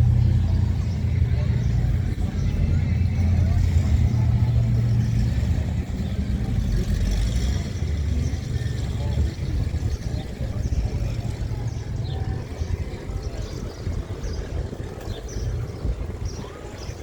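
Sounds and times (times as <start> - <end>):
car engine idling: 0.0 - 17.0
indistinct voices: 0.0 - 17.0.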